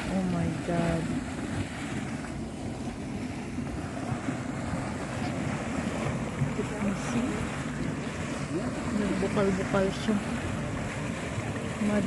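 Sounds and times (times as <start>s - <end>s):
hot spring bubbling and sloshing: 0.0s - 12.0s
wind buffeting microphone: 0.0s - 12.0s.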